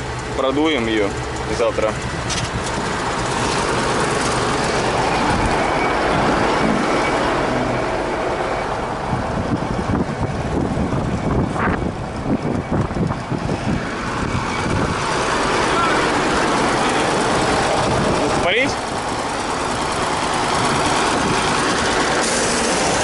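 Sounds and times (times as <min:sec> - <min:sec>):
tractor diesel engine running: 0:00.0 - 0:23.0
loud rushing noise: 0:02.7 - 0:23.0.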